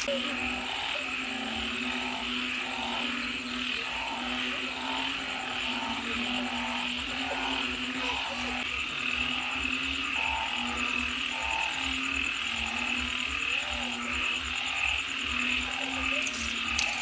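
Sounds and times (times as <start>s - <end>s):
frogs calling: 0.0s - 17.0s
high insect trill: 0.0s - 17.0s.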